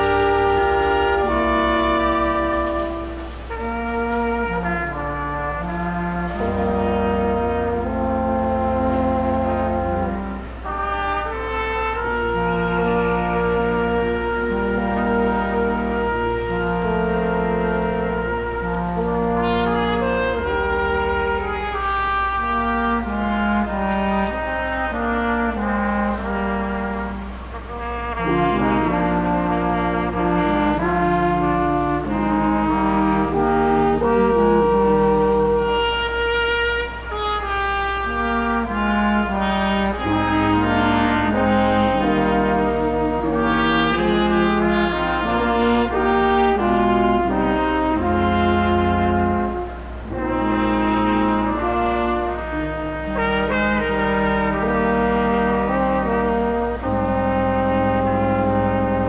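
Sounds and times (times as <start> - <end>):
brass ensemble playing: 0.0 - 59.0.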